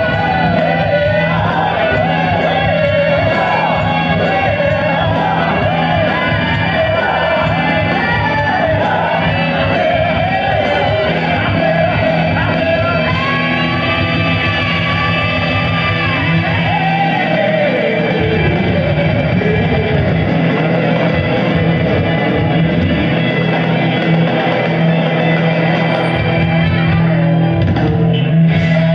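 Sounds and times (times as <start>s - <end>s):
bass guitar: 0.0s - 28.9s
drums: 0.0s - 28.9s
electric guitar: 0.0s - 28.9s
person singing: 0.0s - 28.9s.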